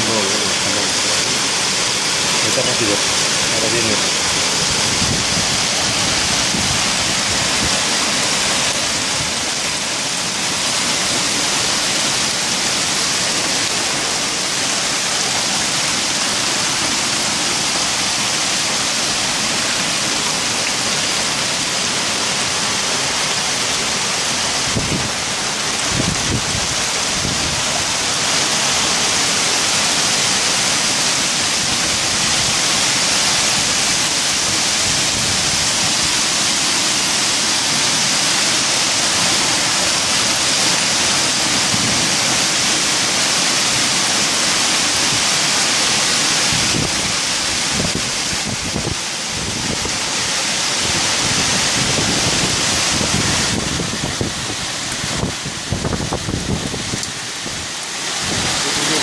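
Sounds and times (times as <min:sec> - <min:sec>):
hail falling on street and cars: 0:00.0 - 0:59.0.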